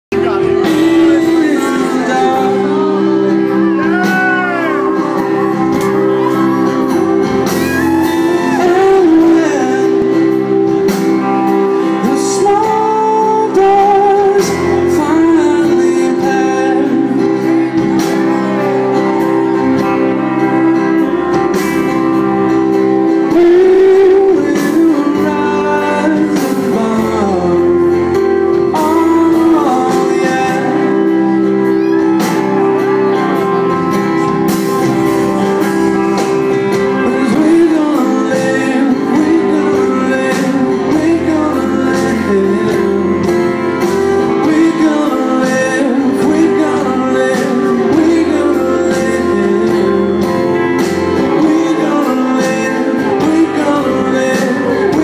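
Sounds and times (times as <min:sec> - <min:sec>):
drums: 0:00.0 - 0:55.0
acoustic guitar: 0:00.1 - 0:55.0
electric guitars: 0:00.1 - 0:55.0
man singing: 0:00.1 - 0:55.0.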